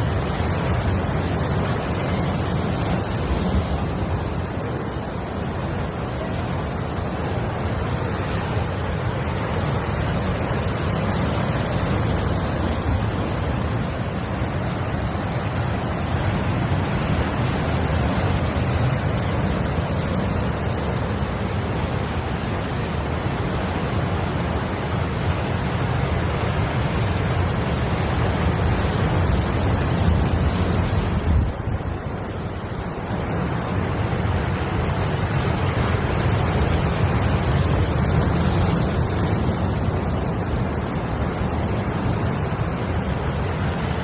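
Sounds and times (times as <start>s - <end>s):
sea surf: 0.0s - 44.0s
wind rumbling on microphone: 0.0s - 44.0s.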